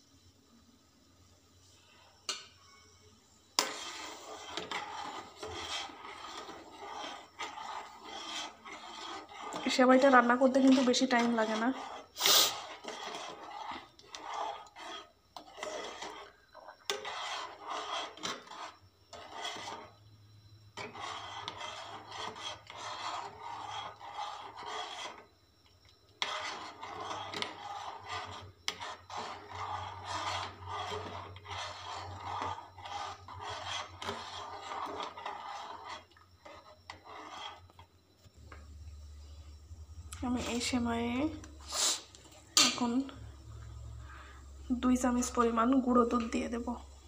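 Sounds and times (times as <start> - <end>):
spoon scraping metal saucepan: 3.5 - 25.3, 26.1 - 37.8, 40.2 - 47.0.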